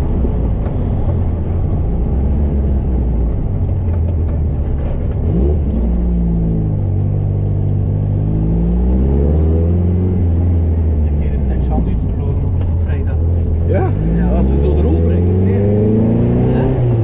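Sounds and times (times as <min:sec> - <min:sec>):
car engine revving: 0:00.0 - 0:17.0
road rumble inside car: 0:00.0 - 0:17.0.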